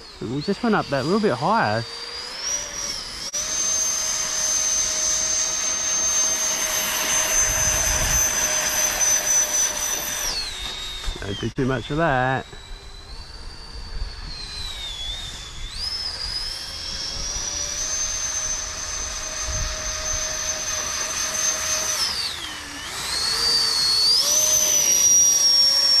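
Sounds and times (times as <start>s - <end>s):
model airboat motor whining: 0.0s - 26.0s.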